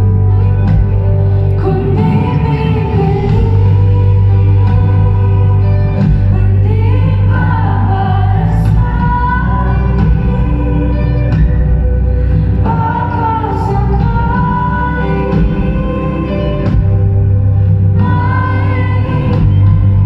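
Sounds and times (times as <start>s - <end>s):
live pop band playing: 0.0s - 20.0s
woman singing long gliding notes: 1.4s - 20.0s.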